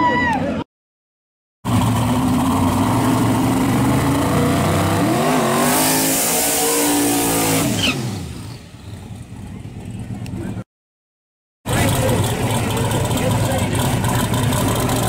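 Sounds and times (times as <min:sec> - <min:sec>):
drag car engine revving: 0:01.7 - 0:10.6, 0:11.7 - 0:15.0.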